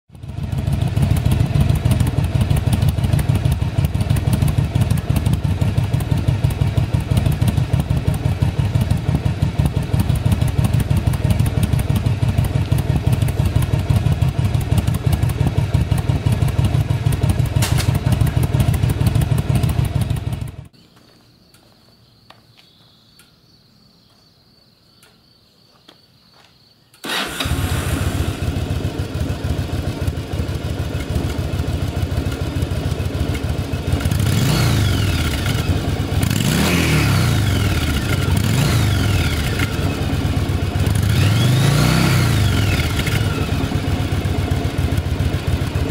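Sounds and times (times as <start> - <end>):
motorcycle engine idling: 0.1 - 20.8, 27.1 - 45.9
motorcycle engine starting: 0.1 - 20.8, 27.0 - 45.9.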